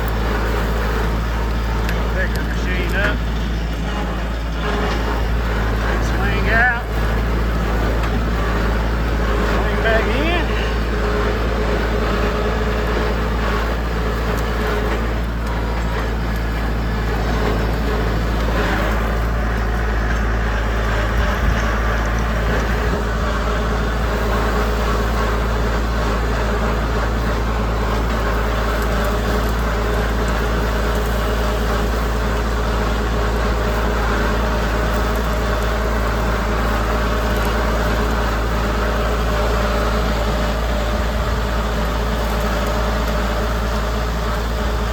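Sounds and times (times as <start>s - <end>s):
tractor engine under load: 0.0s - 44.9s.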